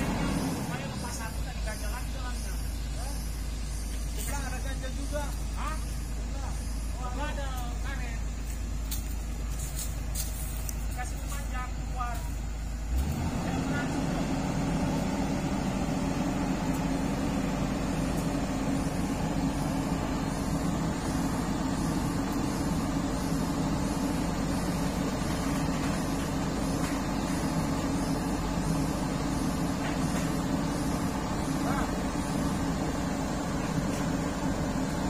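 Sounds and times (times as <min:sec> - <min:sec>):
excavator diesel engine droning: 0:00.0 - 0:35.0.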